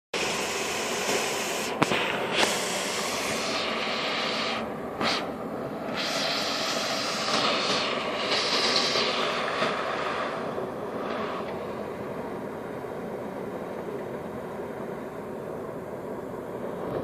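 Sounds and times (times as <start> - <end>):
steam and water rushing hiss: 0.2 - 15.7.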